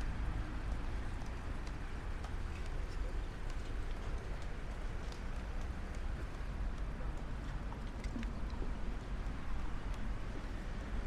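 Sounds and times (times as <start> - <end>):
low street rumble: 0.0 - 11.0
faint clicks and taps: 0.6 - 10.9.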